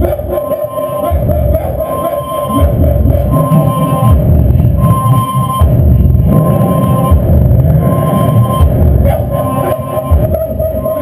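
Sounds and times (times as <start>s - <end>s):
harsh noise wash: 0.0s - 11.0s
heavy pulsing low beat: 0.0s - 11.0s
high held tone: 0.0s - 11.0s
live industrial music: 0.0s - 11.0s.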